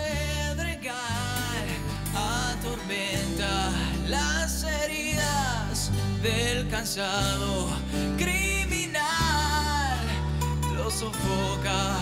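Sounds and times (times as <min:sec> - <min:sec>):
man singing a ballad: 0:00.0 - 0:12.0.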